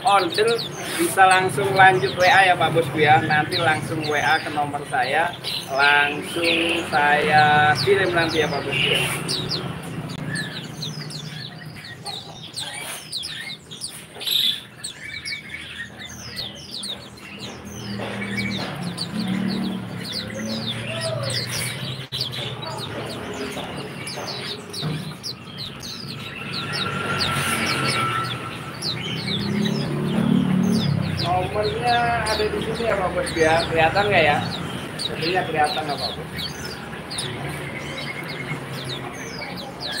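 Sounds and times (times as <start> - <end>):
small songbirds chirping: 0.0 - 40.0.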